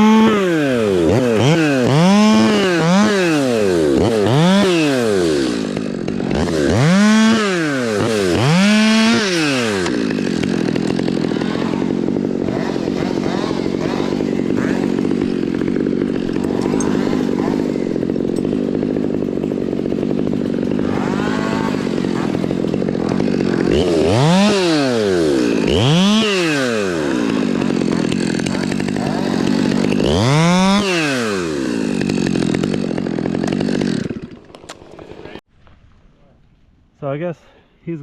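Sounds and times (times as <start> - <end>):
chainsaw running and revving: 0.0 - 35.5.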